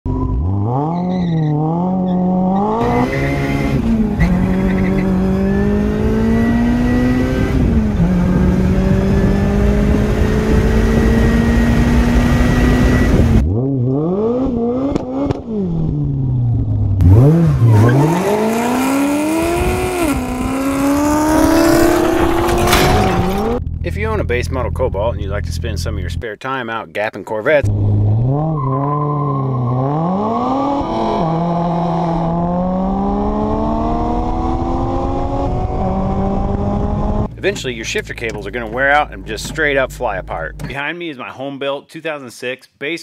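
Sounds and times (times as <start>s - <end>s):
car engine accelerating and revving: 0.1s - 23.6s, 27.6s - 40.7s.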